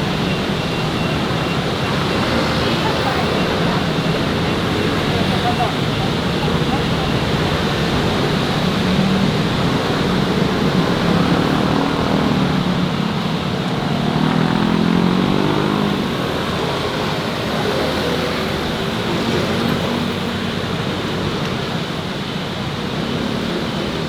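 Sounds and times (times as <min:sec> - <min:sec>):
city street traffic: 0:00.0 - 0:24.0
passing vehicle engines: 0:00.0 - 0:24.0.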